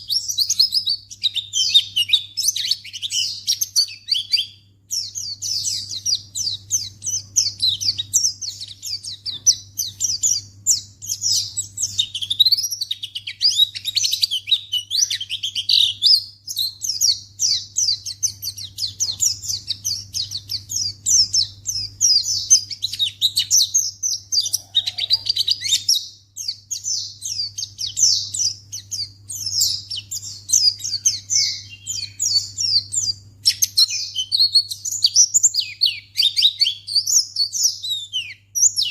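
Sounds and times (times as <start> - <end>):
bird chirping and trilling: 0.0 - 38.9
faint low hum: 0.0 - 38.9.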